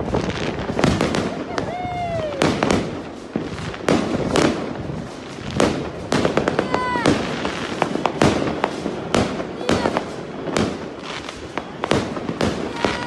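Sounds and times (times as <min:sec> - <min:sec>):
firecrackers banging: 0:00.0 - 0:13.0
firework whistle: 0:00.0 - 0:13.0
fireworks crackling: 0:00.0 - 0:13.0.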